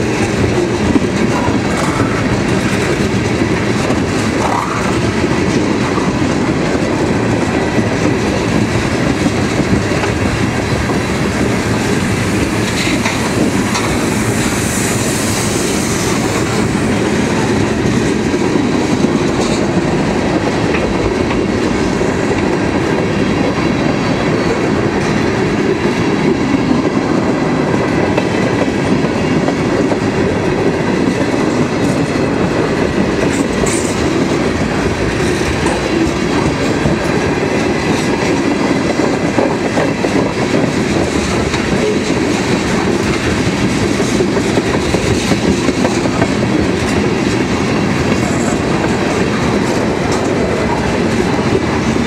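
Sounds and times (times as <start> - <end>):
freight train rumbling past: 0.0 - 52.0
steel wheels clattering on rails: 0.0 - 52.0.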